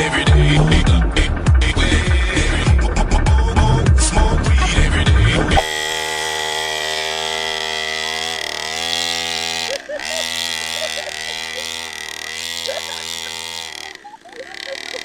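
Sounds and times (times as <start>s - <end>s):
two-stroke dirt bike engine: 0.0s - 15.0s.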